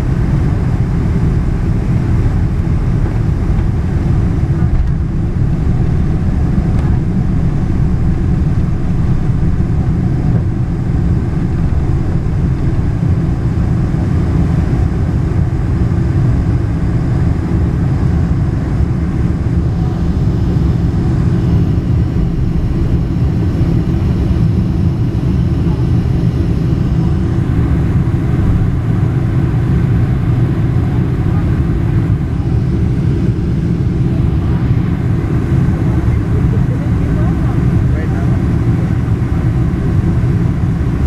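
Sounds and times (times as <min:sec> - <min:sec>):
jet engine rumble in cabin: 0:00.0 - 0:41.0.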